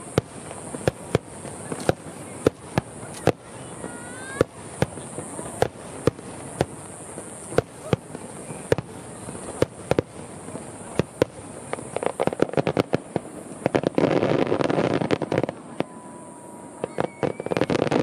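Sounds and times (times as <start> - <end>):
firework shells bursting: 0.0 - 15.6
crackling of sparkling stars: 0.0 - 18.0.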